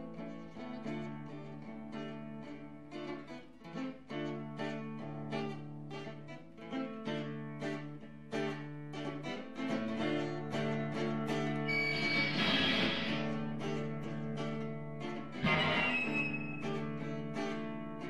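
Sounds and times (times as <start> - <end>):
plucked guitar: 0.0 - 18.0.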